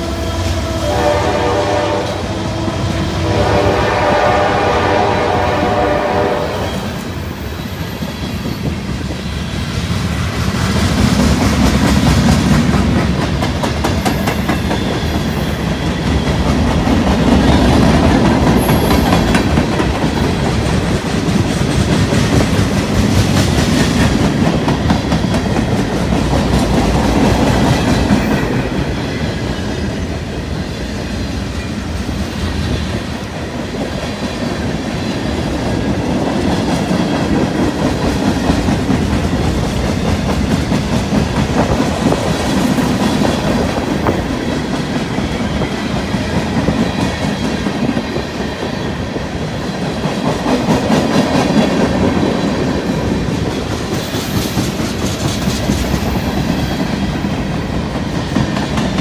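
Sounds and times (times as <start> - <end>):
freight train wheels clattering: 6.7 - 59.0.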